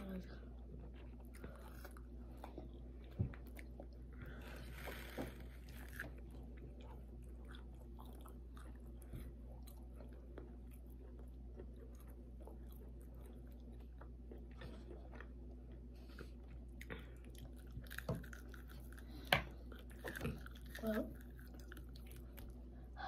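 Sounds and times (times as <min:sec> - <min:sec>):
steady low hum: 0:00.0 - 0:23.0
chewing with mouth clicks: 0:00.4 - 0:23.0.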